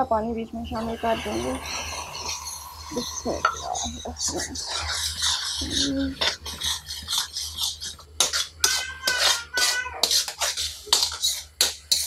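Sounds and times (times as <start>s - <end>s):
spatula scraping metal pan: 0.7s - 12.0s.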